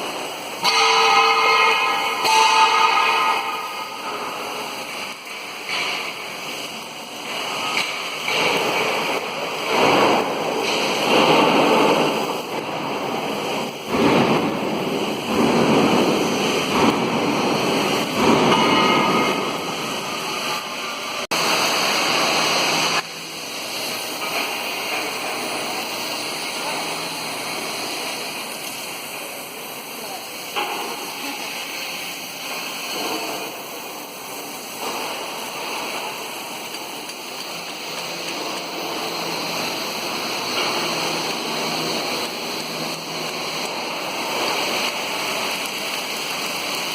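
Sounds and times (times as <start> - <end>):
torch flame hissing: 0.0 - 46.9.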